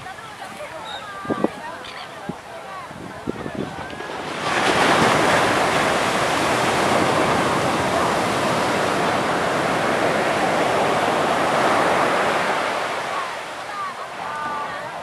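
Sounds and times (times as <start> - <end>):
surf breaking on shore: 0.0 - 15.0.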